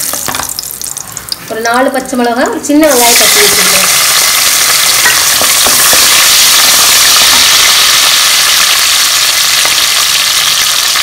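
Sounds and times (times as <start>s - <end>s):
spices sizzling in hot oil: 0.0s - 1.6s, 2.8s - 11.0s.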